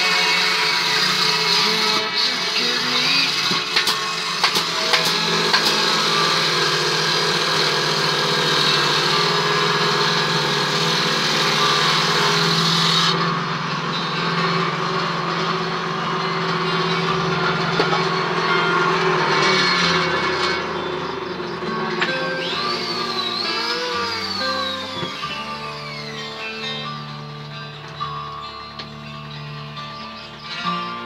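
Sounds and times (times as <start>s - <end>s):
machine motor humming: 0.0s - 27.6s.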